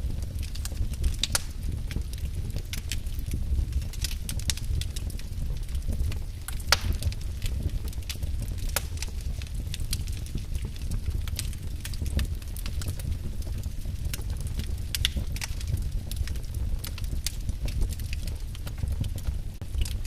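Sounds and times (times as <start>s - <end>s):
fire low rumble: 0.0s - 20.0s
wood fire crackling: 0.0s - 20.0s.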